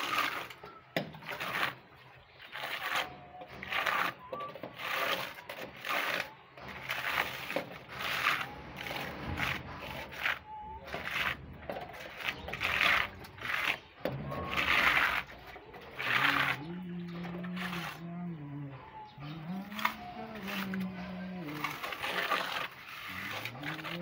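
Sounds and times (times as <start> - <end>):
trowel scraping on masonry wall: 0.0 - 24.0.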